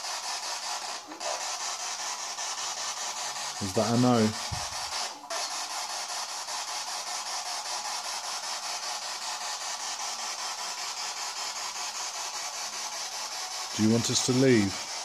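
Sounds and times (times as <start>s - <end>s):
steady pulsing hiss: 0.0s - 15.0s.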